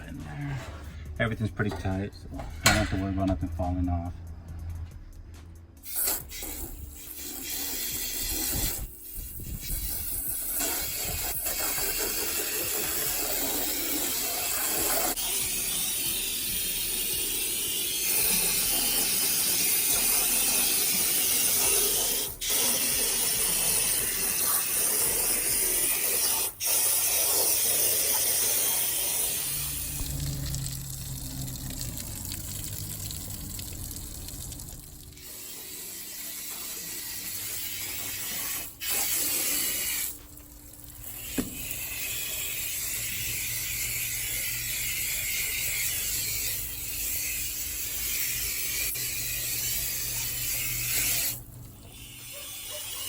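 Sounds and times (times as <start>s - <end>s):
water spraying from hose: 5.8s - 53.0s.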